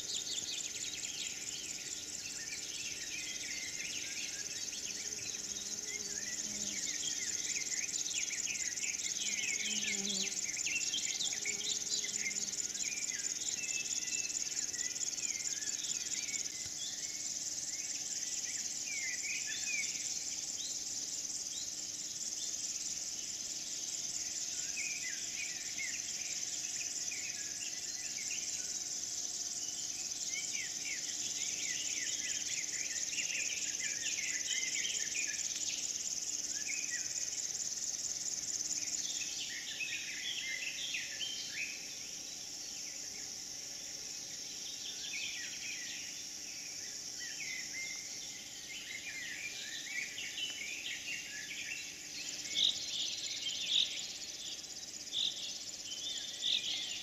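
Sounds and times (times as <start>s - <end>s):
insects chirring: 0.0s - 57.0s
small birds singing: 0.0s - 57.0s.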